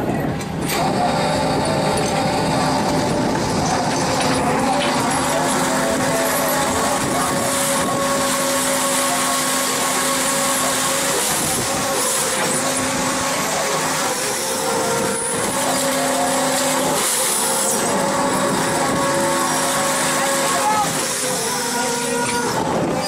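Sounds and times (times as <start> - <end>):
boat engine and machinery hum: 0.0 - 23.0
broad rushing noise: 0.0 - 23.0
held mechanical tones: 0.0 - 23.0.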